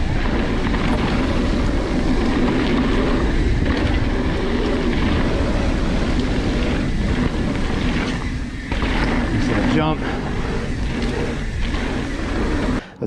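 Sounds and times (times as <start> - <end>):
bike tyres rolling on dirt: 0.0 - 13.0
wind buffeting microphone: 0.0 - 13.0.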